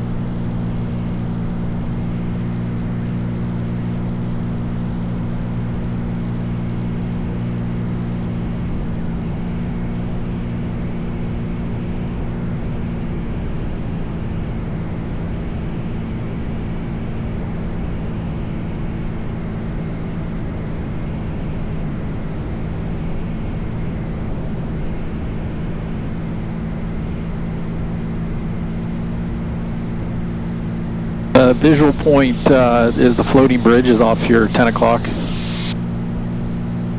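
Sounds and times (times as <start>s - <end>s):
propeller plane engine droning: 0.0s - 36.9s.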